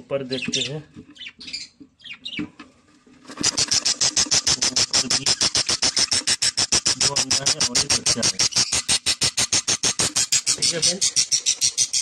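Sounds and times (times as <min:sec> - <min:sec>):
budgerigar chirping: 0:00.4 - 0:02.4, 0:03.4 - 0:12.0.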